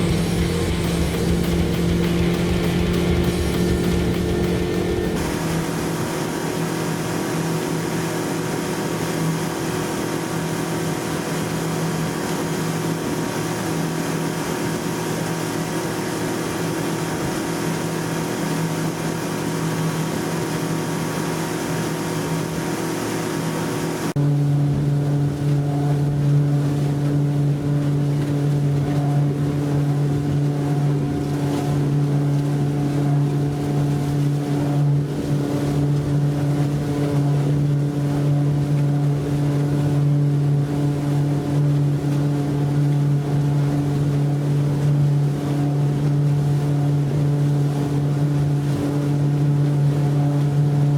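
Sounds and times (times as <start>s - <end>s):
outboard motor running: 0.0s - 50.9s
water and wind rushing: 0.0s - 50.9s.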